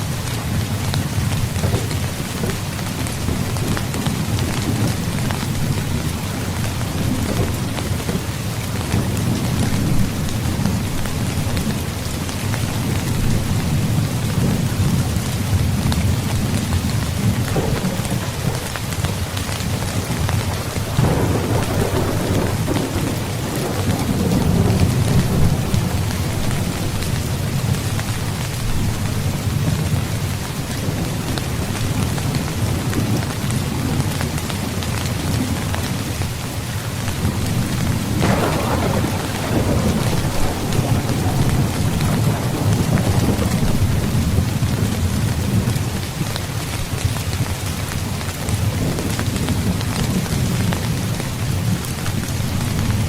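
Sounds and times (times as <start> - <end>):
low thunder rumbling: 0.0 - 36.3, 36.9 - 53.0
heavy rain falling: 0.0 - 53.0.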